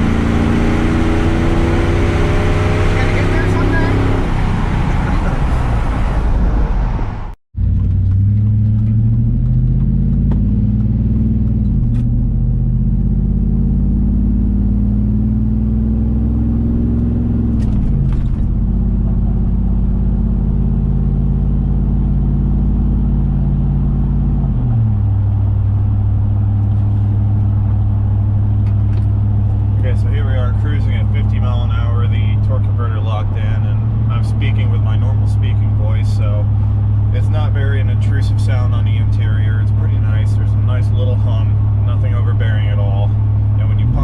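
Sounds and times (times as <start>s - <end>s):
truck exhaust drone accelerating: 0.0s - 44.0s.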